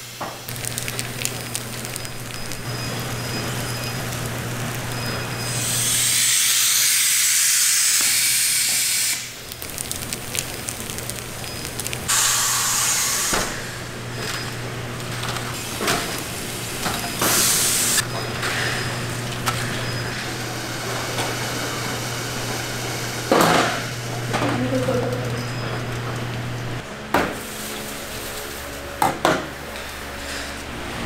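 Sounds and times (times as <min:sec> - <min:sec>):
machinery humming: 0:00.0 - 0:31.0.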